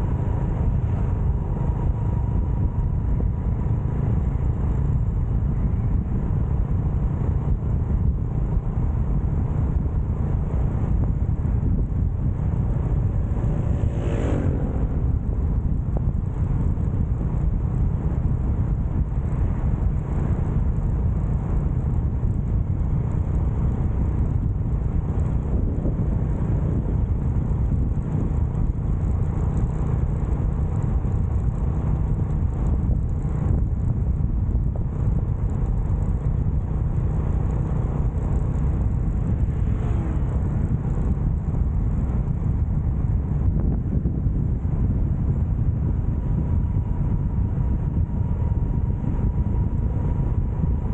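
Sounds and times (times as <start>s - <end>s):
wind and road noise: 0.0s - 50.9s.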